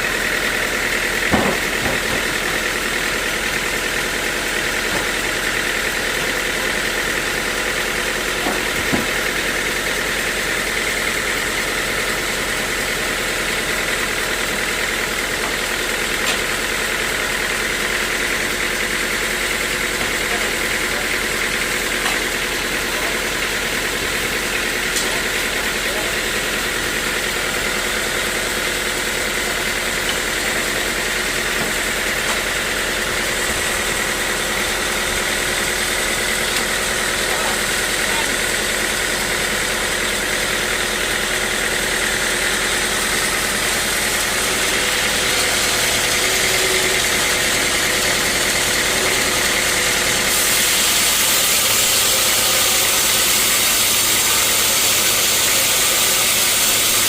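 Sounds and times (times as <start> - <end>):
sawmill machinery hum and hiss: 0.0 - 57.0.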